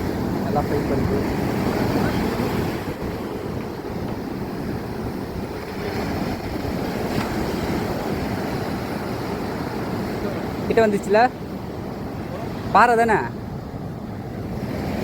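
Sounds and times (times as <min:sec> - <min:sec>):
surf rushing on shore: 0:00.0 - 0:15.0
wind buffeting microphone: 0:00.0 - 0:15.0.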